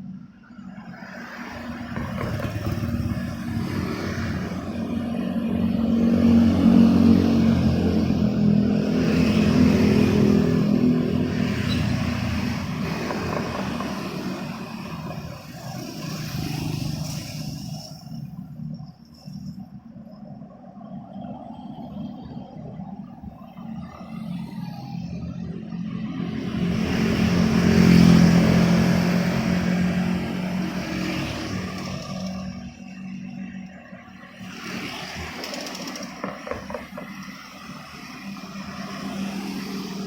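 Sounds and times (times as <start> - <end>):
vehicle engine passing by: 1.0 - 18.5, 23.9 - 33.6, 34.3 - 40.0.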